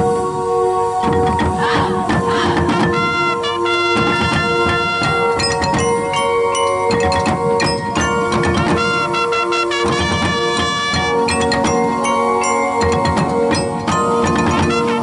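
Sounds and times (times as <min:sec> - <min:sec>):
drums: 0:01.0 - 0:15.0
mallet percussion ringing notes: 0:01.0 - 0:15.0
marching band chords: 0:01.0 - 0:15.0.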